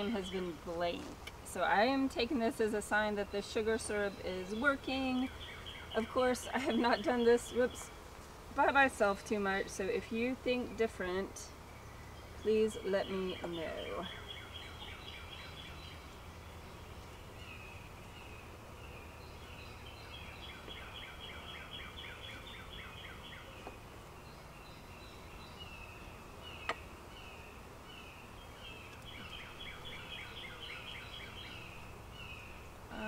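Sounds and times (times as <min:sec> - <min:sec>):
beehive humming: 0:00.0 - 0:33.0
songbird chirping: 0:00.0 - 0:33.0.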